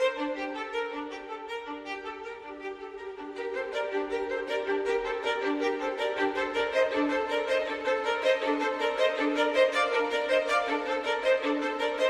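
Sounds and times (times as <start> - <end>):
fiddle music: 0.0 - 12.0.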